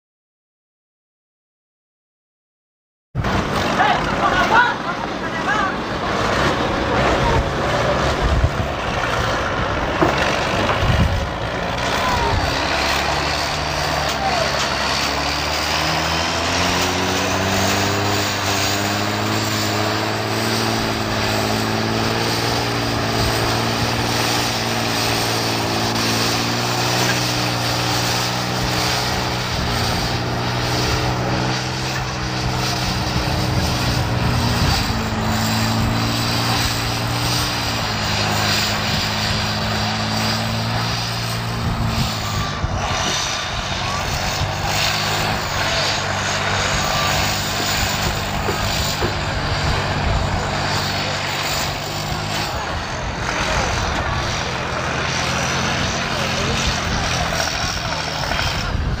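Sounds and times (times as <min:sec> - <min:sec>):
dense rushing noise: 0:03.2 - 0:59.0
tractor engine running under load: 0:03.2 - 0:59.0.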